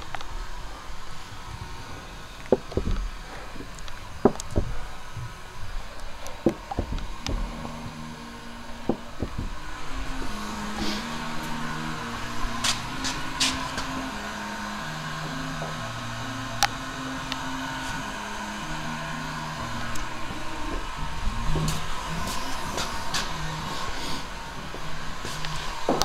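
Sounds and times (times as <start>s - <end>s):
heat gun blower whirring: 0.0s - 26.0s
low hum shifting pitch: 0.0s - 26.0s.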